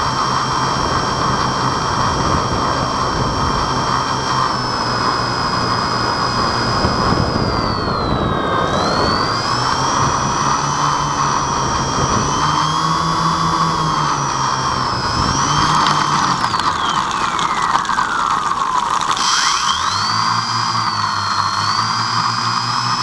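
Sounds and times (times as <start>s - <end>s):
model airplane propellers whining: 0.0s - 23.0s.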